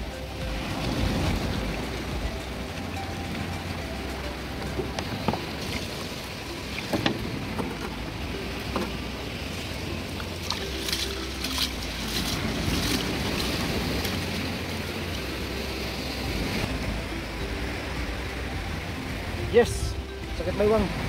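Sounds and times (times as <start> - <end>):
surf: 0.0 - 21.0
wind noise: 0.0 - 21.0.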